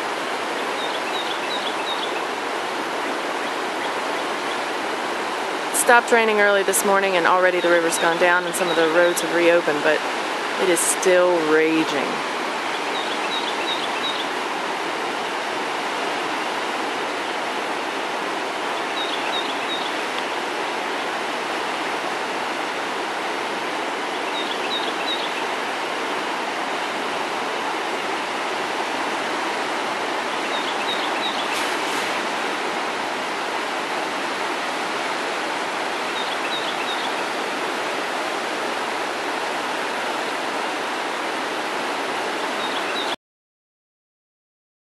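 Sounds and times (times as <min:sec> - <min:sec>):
river water rushing: 0:00.0 - 0:43.2.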